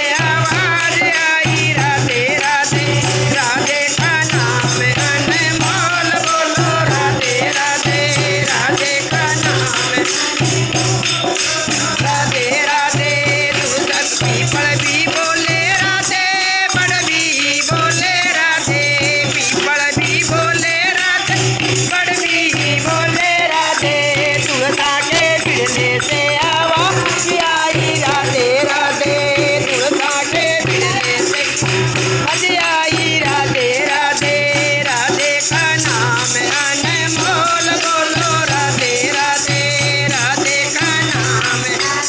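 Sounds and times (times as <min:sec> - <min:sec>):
jingling percussion: 0:00.0 - 0:42.0.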